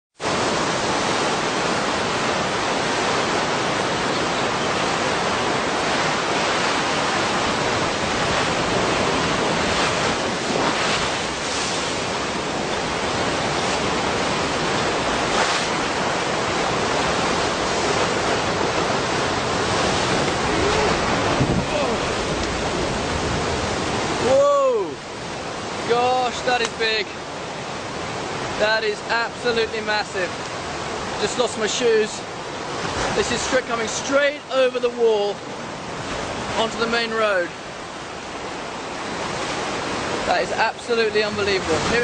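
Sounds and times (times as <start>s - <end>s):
roar of rushing seawater: 0.2s - 42.0s.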